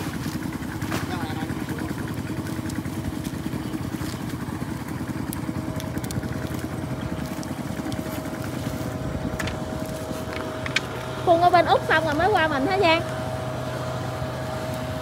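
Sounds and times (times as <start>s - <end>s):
small engines chugging: 0.0s - 15.0s.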